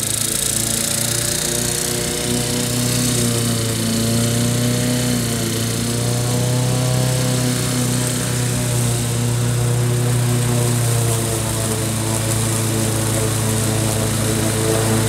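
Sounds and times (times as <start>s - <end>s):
ride-on mower engine running: 0.0s - 15.0s.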